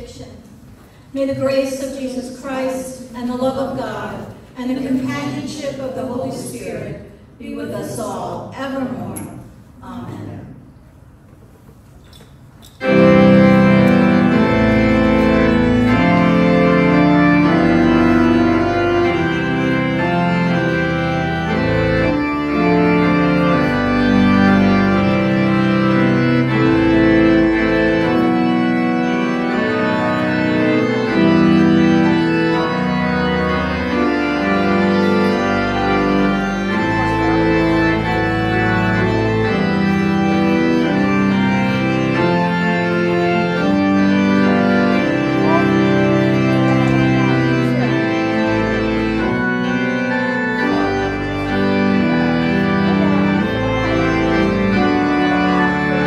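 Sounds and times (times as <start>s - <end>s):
organ music: 1.4s - 9.4s, 12.6s - 56.0s.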